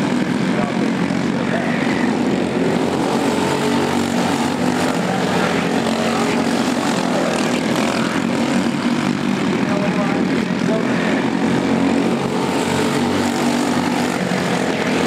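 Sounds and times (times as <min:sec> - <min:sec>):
go-kart engines buzzing: 0:00.0 - 0:15.0.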